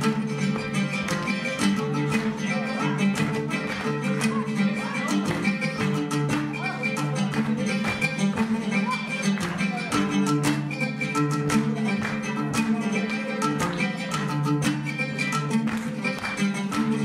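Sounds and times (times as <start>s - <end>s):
oud plucked notes: 0.0s - 17.0s.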